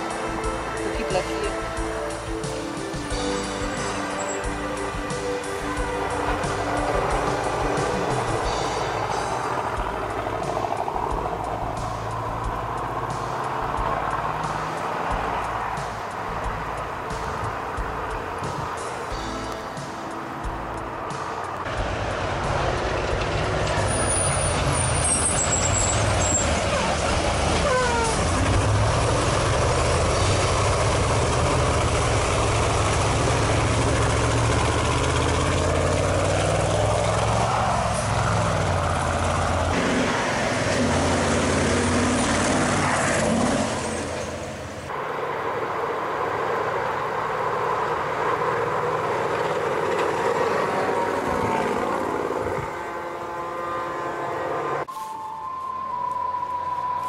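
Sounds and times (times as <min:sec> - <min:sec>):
diesel truck engines rumbling: 0:00.0 - 0:57.0
truck passing by: 0:00.0 - 0:57.0.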